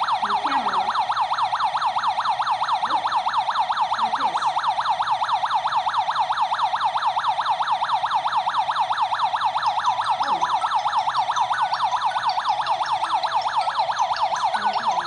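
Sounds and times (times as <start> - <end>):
electronic alarm siren warbling: 0.0 - 15.0.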